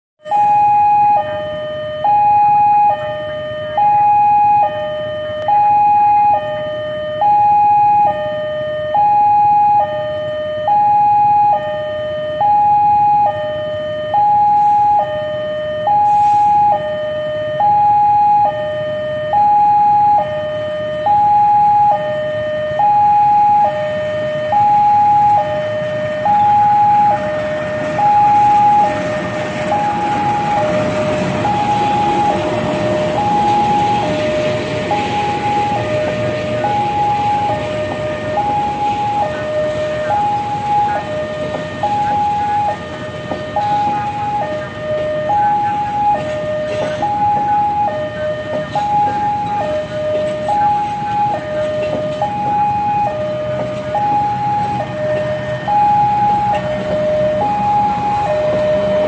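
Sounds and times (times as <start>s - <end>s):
diesel locomotive engine rumble: 0.2s - 59.0s
level crossing two-tone alarm: 0.2s - 59.0s.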